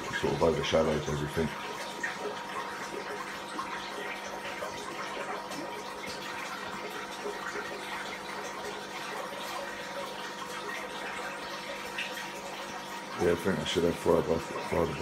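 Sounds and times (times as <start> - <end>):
aquarium water splashing and bubbling: 0.0 - 15.0.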